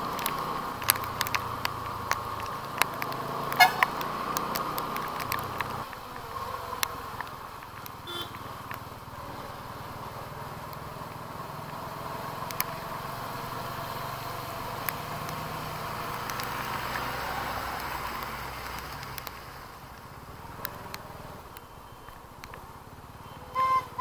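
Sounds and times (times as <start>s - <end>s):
hiss of water and wind: 0.0s - 23.2s
motorcycle engine at low speed: 0.0s - 24.0s.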